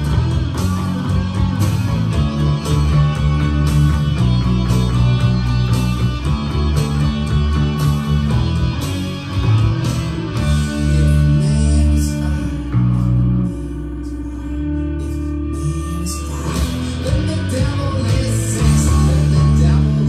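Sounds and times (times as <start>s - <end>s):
electric bass long low notes: 0.0s - 20.0s
rock song with guitar and vocals: 0.0s - 20.0s.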